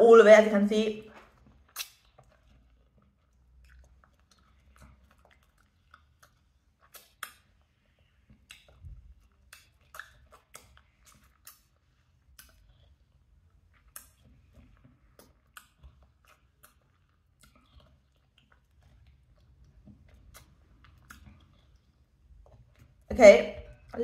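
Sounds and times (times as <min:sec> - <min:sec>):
wet chewing and sucking: 0:01.2 - 0:23.1
mouth clicks and smacks: 0:01.2 - 0:24.0.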